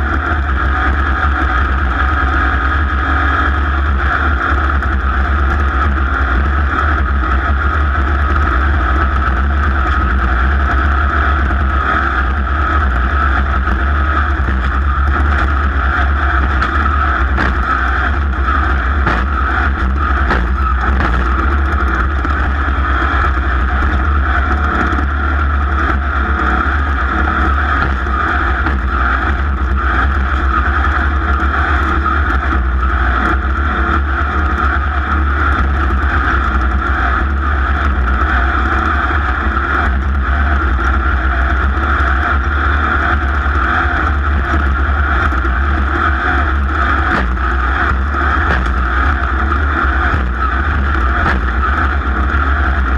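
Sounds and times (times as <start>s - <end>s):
racing engine at high speed: 0.0s - 52.9s.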